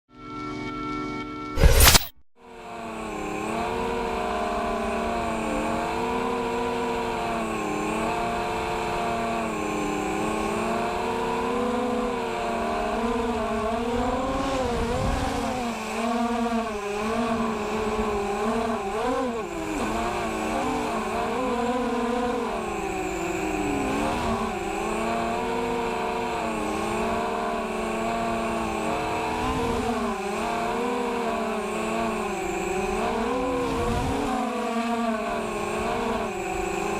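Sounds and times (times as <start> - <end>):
quadcopter motors whining: 1.5 - 36.9.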